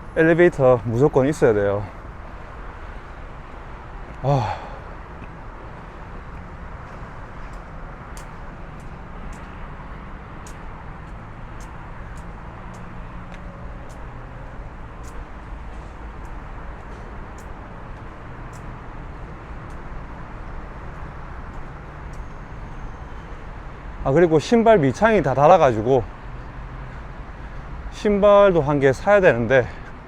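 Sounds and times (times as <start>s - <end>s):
distant city traffic hum: 0.0s - 30.0s.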